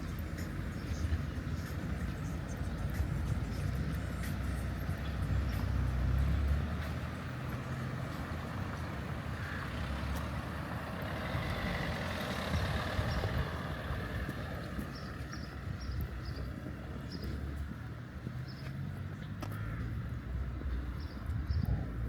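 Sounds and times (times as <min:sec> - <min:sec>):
road noise: 0:00.0 - 0:22.0
vehicle engine rumble: 0:00.0 - 0:22.0.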